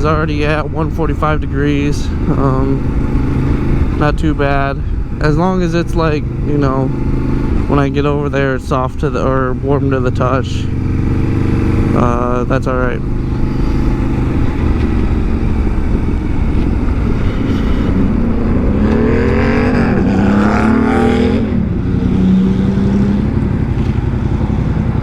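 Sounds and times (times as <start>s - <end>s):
motorcycle engine running: 0.0s - 25.0s
steady low rumble: 0.0s - 25.0s.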